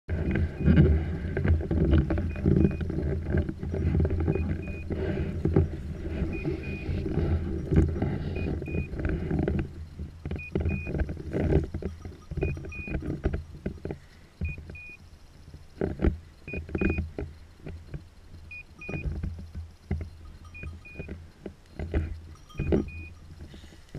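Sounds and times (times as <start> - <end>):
handling rustles and knocks: 0.1 - 23.9.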